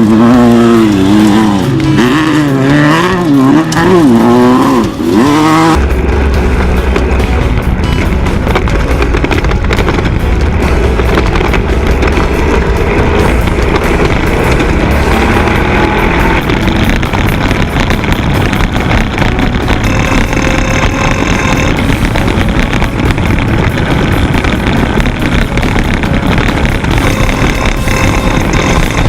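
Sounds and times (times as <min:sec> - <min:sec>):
race vehicle engines running hard: 0:00.0 - 0:29.0.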